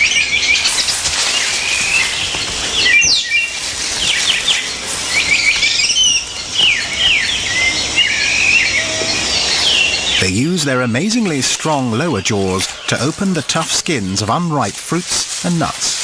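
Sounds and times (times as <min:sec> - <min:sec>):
bird chorus chirping: 0:00.0 - 0:16.0
steady high hiss: 0:00.0 - 0:16.0.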